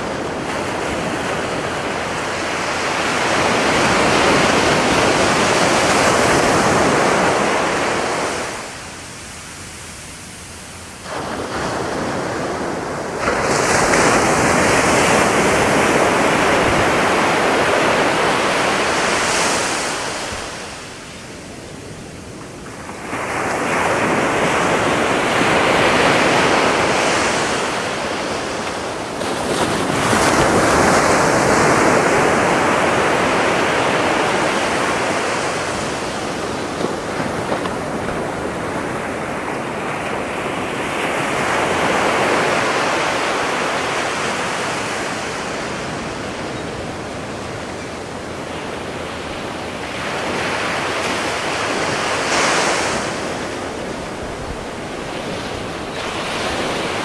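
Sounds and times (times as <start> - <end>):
surf breaking on a beach: 0.0 - 57.0.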